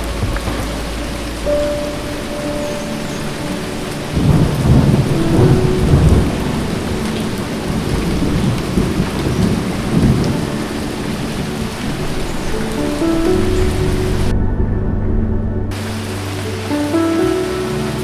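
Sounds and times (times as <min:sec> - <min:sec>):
heavy rain falling: 0:00.0 - 0:18.0
thunder rumbling: 0:00.0 - 0:18.0.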